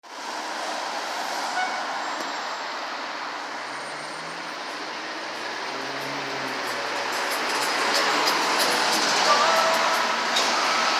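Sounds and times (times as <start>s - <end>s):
road and traffic noise: 0.0s - 10.9s
diesel engine hum: 0.4s - 10.9s.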